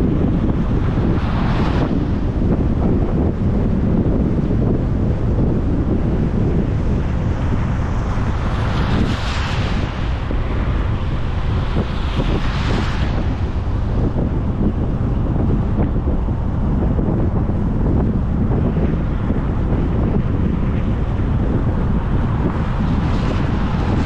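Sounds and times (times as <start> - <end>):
vehicle road and wind noise: 0.0 - 24.0.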